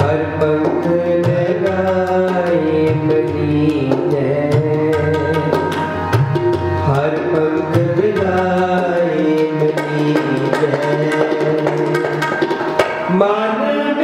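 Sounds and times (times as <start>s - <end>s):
harmonium playing held notes: 0.0s - 14.0s
tabla striking a rhythm: 0.0s - 14.0s.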